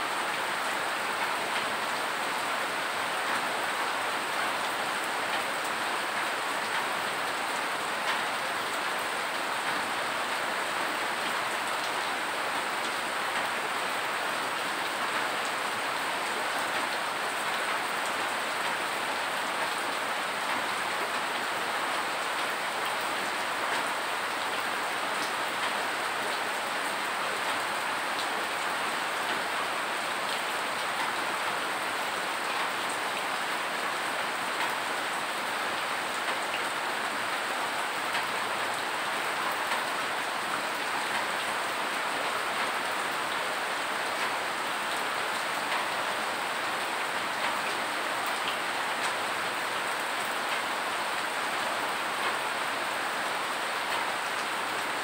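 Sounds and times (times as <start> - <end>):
rain on wet concrete: 0.0 - 55.0.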